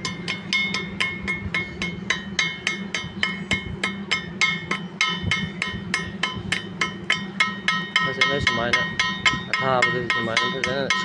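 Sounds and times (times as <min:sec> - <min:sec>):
metal clanking rhythmically: 0:00.0 - 0:11.0
steady low hum: 0:00.0 - 0:11.0.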